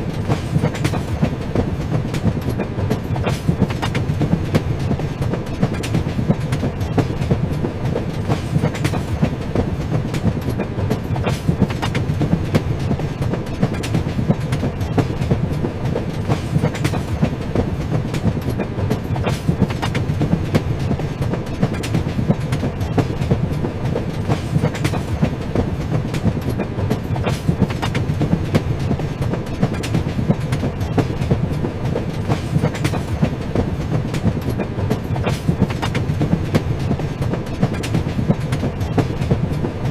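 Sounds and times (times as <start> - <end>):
train rumbling on rails: 0.0 - 39.9
wheels clicking over track: 0.0 - 39.9.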